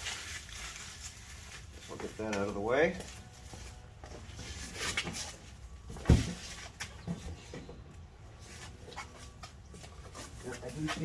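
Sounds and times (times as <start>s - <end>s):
cardboard rustling and scraping: 0.0s - 7.3s, 8.4s - 11.0s.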